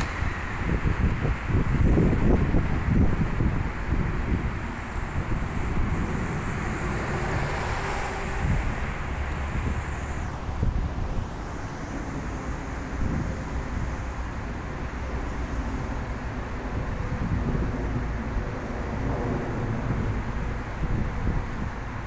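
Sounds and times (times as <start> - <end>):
electric train rumble: 0.0 - 22.0
wind buffeting microphone: 0.0 - 22.0.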